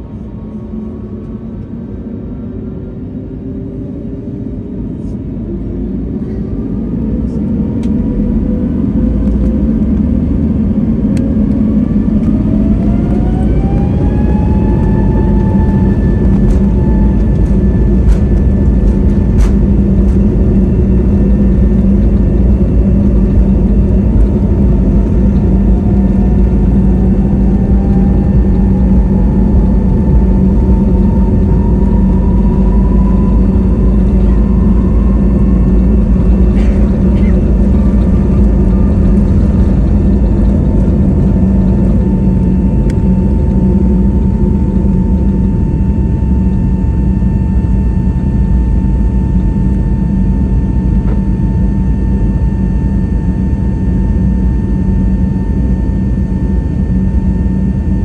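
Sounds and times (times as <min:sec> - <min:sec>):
heavy rumble: 0:00.0 - 0:58.0
jet engine whine rising: 0:00.0 - 0:58.0.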